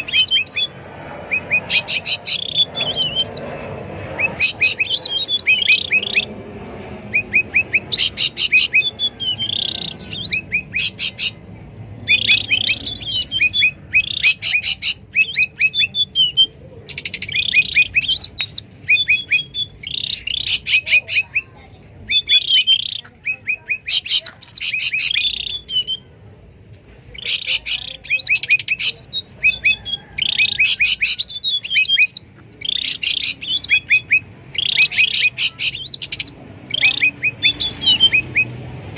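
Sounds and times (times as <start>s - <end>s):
bulbuls calling loudly: 0.0s - 26.2s, 27.1s - 38.9s.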